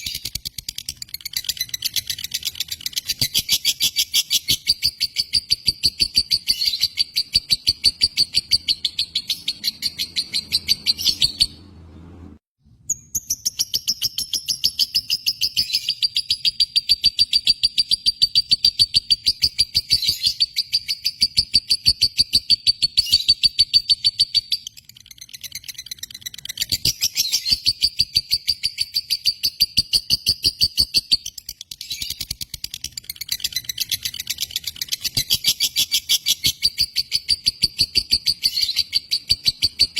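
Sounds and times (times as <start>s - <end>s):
lovebird chattering song: 0.0s - 11.6s, 12.9s - 39.9s.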